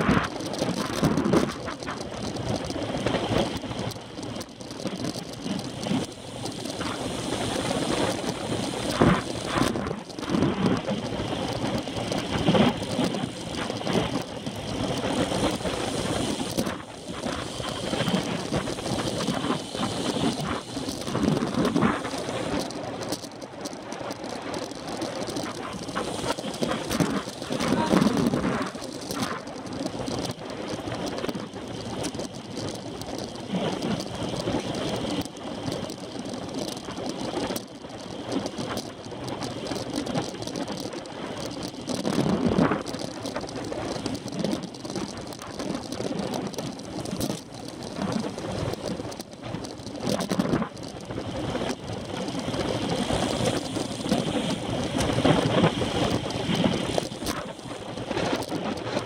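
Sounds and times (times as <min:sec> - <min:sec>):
bicycle rattling on road: 0:00.0 - 0:59.0
wind rushing over microphone: 0:00.0 - 0:59.0.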